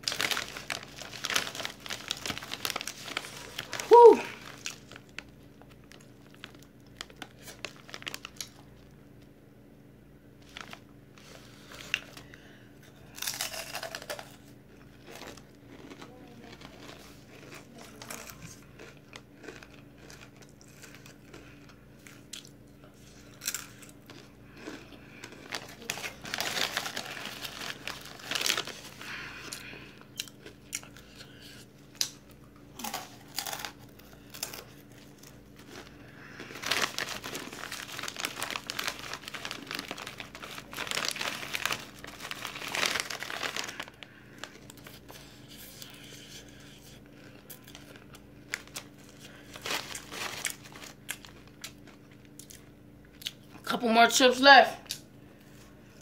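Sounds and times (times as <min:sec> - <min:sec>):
plastic chip bag crinkling: 0:00.0 - 0:08.9, 0:10.4 - 0:53.6.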